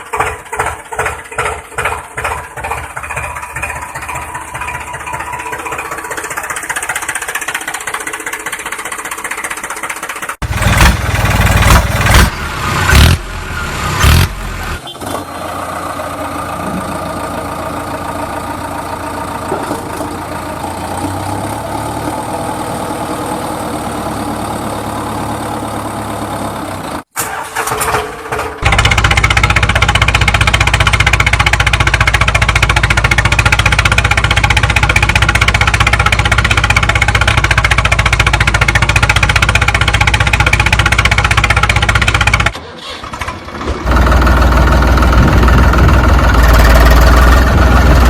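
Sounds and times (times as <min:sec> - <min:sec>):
engine running and surging: 0:00.0 - 0:27.1, 0:28.6 - 0:48.0.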